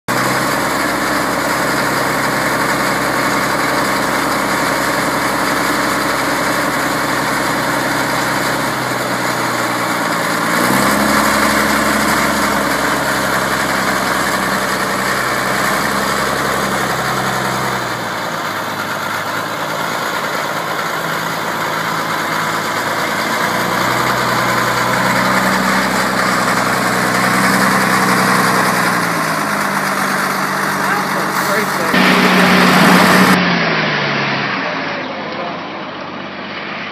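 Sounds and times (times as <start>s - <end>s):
diesel engine idling: 0.0s - 36.2s.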